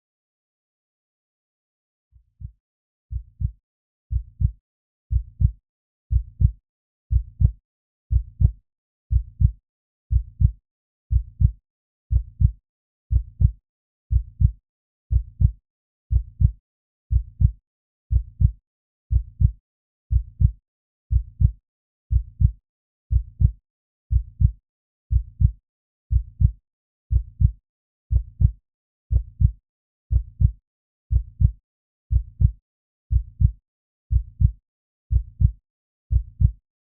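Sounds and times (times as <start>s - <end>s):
human heartbeat thumping: 2.4s - 36.6s.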